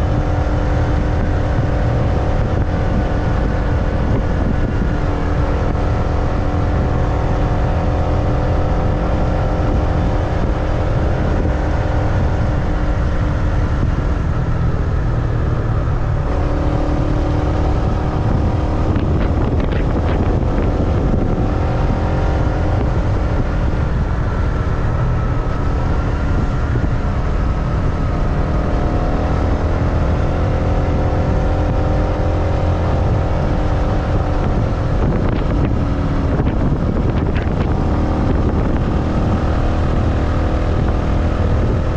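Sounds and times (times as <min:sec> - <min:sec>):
low road rumble: 0:00.0 - 0:41.9
motorbike engine running: 0:00.0 - 0:41.9.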